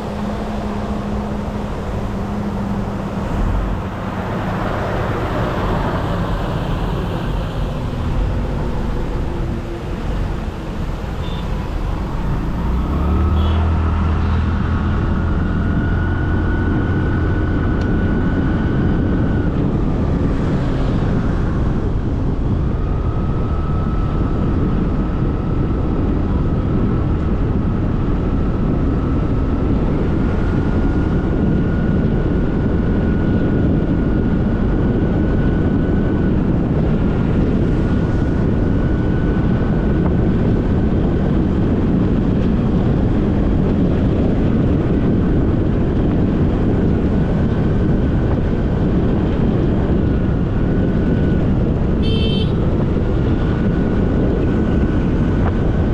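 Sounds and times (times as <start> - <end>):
motorbike road noise: 0.0 - 55.9
wind rushing over camera: 0.0 - 55.9.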